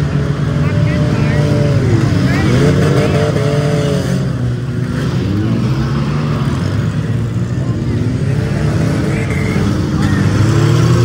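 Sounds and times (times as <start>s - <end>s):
car engines revving: 0.0s - 11.0s
steady engine din: 0.0s - 11.0s.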